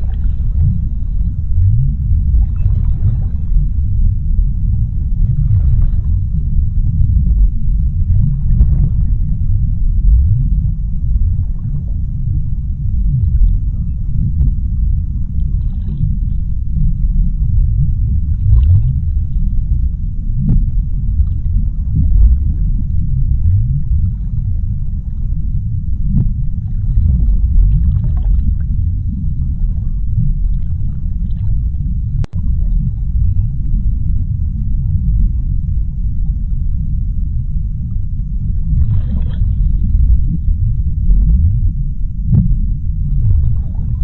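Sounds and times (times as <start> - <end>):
deep underwater churning rumble: 0.0 - 44.0
faint bubbling crackles: 0.0 - 44.0.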